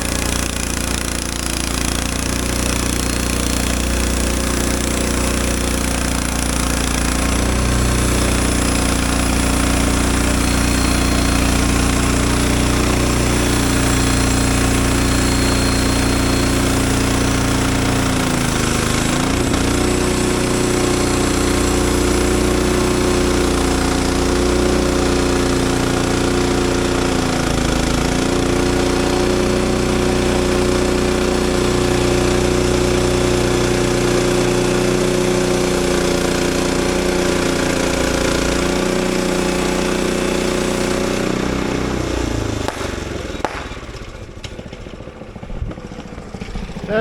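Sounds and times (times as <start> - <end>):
sawmill engine and blade sawing: 0.0 - 47.0.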